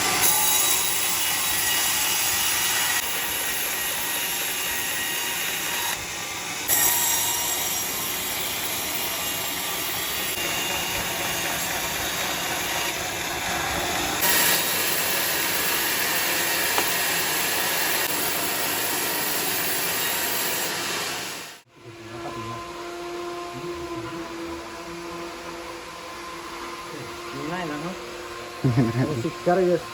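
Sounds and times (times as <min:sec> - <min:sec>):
sawmill saw whining: 0:00.0 - 0:29.9.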